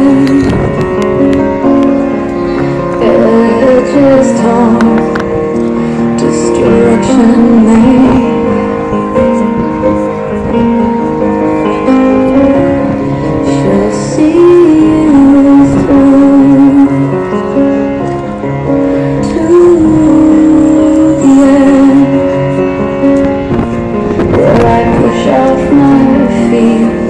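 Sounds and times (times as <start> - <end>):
instruments holding long notes: 0.0 - 27.0.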